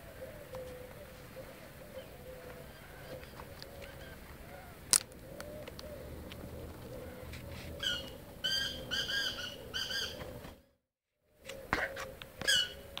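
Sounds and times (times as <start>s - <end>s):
bird calling harsh notes: 0.0s - 10.6s, 11.6s - 13.0s.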